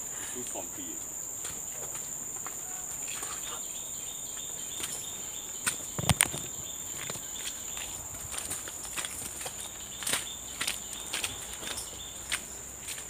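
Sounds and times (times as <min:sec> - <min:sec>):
high-pitched insect drone: 0:00.0 - 0:13.0
footsteps on muddy trail: 0:01.3 - 0:03.5, 0:04.3 - 0:13.0.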